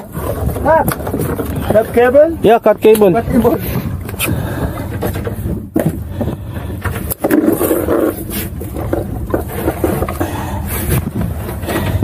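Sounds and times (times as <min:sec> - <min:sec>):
boat rumble: 0:00.0 - 0:12.0
wind noise on microphone: 0:00.0 - 0:12.0.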